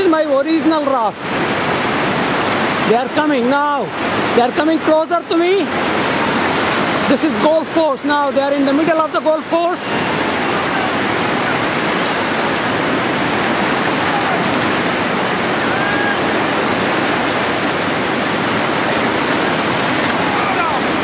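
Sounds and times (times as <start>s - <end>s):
whitewater rapid rushing: 0.0s - 21.0s.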